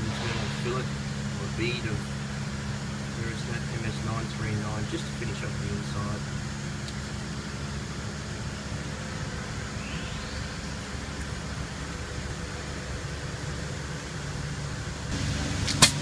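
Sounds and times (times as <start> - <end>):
workshop room noise hiss and hum: 0.0 - 16.0.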